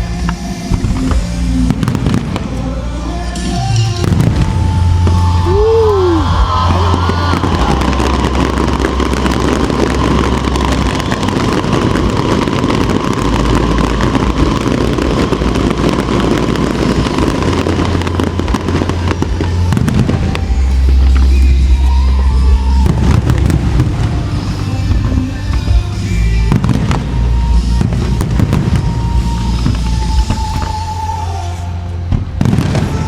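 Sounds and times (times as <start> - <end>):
fireworks crackling and banging: 0.0 - 33.0
low rumble: 0.0 - 33.0.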